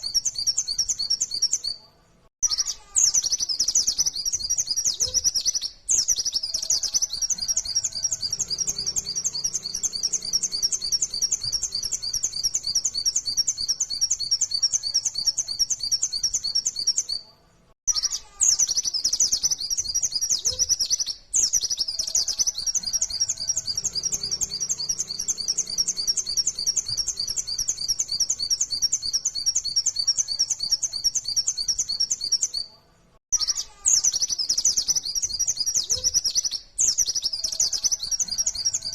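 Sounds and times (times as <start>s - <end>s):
bird singing rapid high chirps: 0.0s - 1.8s, 2.4s - 17.2s, 17.8s - 32.7s, 33.3s - 38.9s.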